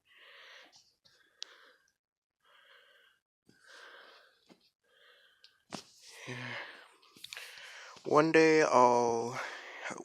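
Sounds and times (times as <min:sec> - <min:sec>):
faint breathing: 0:00.0 - 0:08.1, 0:09.4 - 0:10.0.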